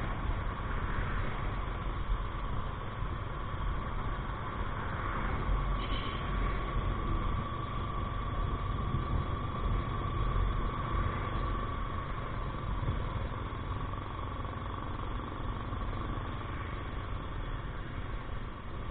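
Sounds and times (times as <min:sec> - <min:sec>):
motorcycle engine drone: 0:00.0 - 0:18.9
road and wind rumble: 0:00.0 - 0:18.9.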